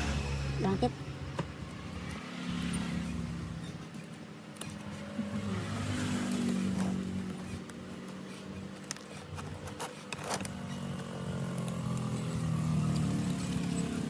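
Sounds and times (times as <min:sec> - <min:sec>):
sharp ticks and clicks: 0:01.0 - 0:14.0.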